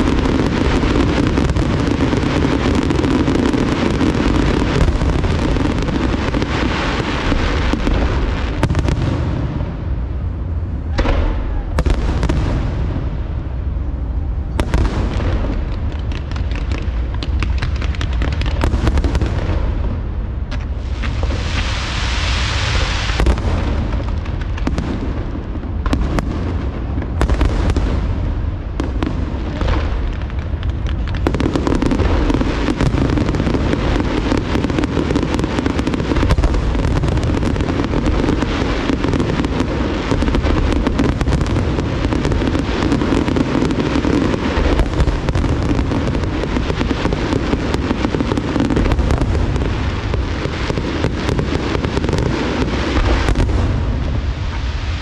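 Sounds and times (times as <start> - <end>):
fireworks bursting with bangs: 0.0 - 55.0.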